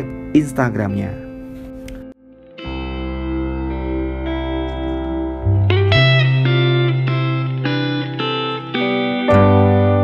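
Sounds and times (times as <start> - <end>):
guitar chords with effects: 0.0 - 10.0.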